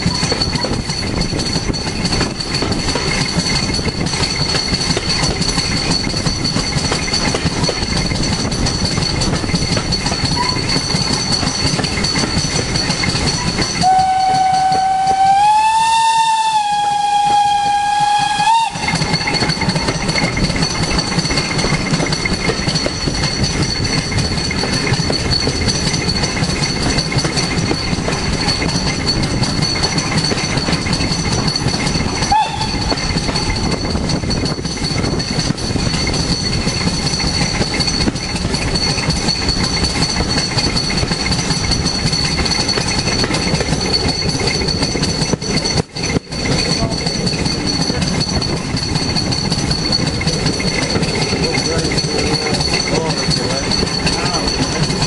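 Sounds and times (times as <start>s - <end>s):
train bogies rumbling: 0.0s - 55.0s
wheels clacking over rail joints: 0.0s - 55.0s.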